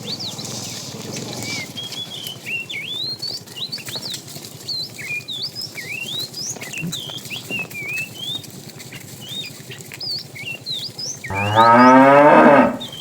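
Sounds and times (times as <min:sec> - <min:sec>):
low pattering rustle: 0:00.0 - 0:13.0
small birds twittering: 0:00.0 - 0:13.0.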